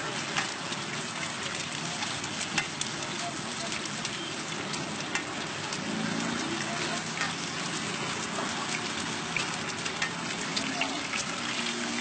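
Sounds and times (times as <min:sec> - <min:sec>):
eggs sizzling on a griddle: 0:00.0 - 0:12.0.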